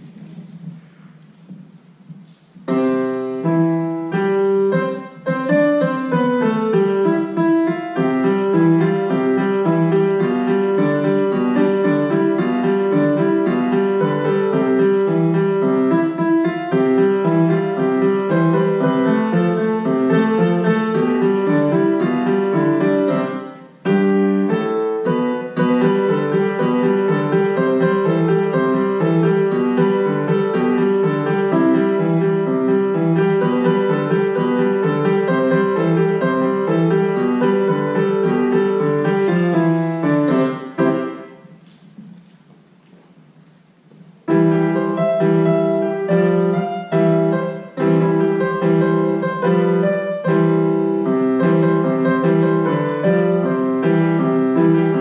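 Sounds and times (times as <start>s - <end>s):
solo piano playing: 2.2s - 55.0s.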